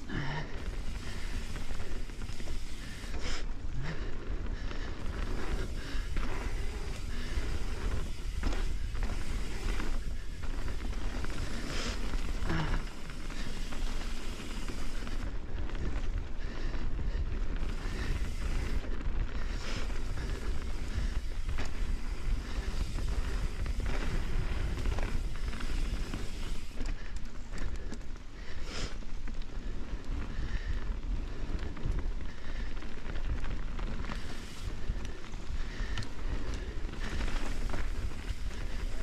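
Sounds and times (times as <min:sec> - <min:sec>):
tyre noise on dirt: 0:00.0 - 0:39.0
bike rattling and knocking: 0:00.1 - 0:39.0.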